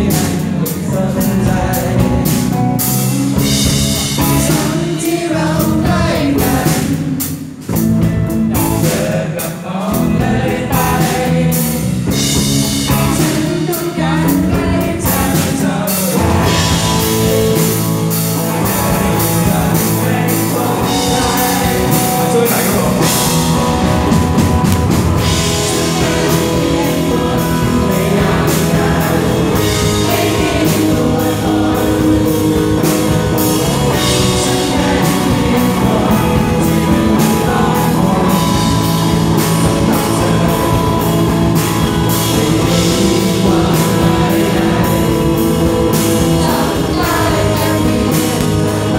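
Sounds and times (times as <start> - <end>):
person singing: 0.0 - 7.5, 12.6 - 48.9
drums: 0.0 - 48.9
electric guitars: 0.0 - 48.9
rock band playing: 0.0 - 48.9.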